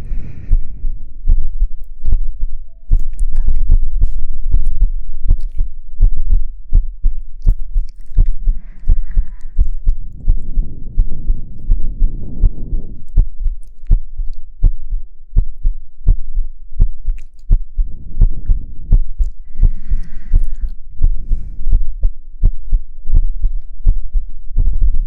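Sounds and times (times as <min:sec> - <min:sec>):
deep low hum: 0:00.0 - 0:25.0
slow heartbeat-like thumps: 0:00.0 - 0:25.0.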